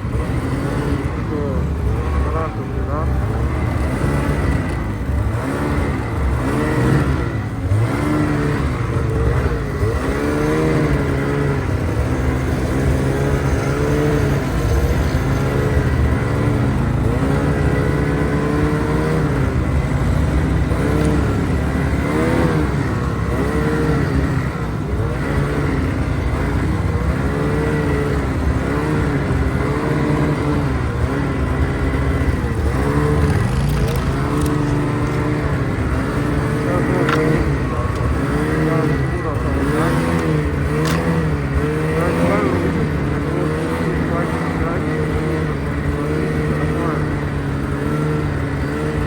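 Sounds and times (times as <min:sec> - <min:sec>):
snowmobile engine revving: 0:00.0 - 0:49.0.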